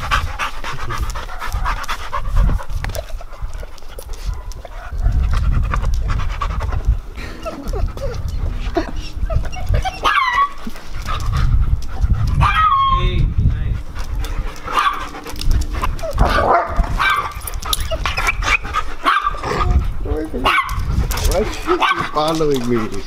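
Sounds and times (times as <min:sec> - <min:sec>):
dogs panting hard: 0:00.0 - 0:23.0.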